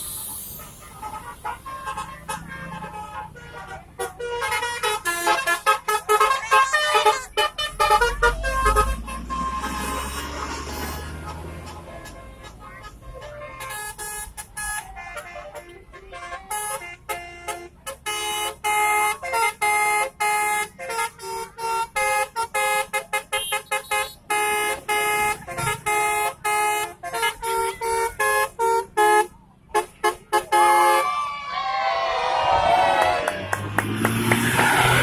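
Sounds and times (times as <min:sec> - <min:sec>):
bus multi-tone horn melody: 0:00.0 - 0:35.0.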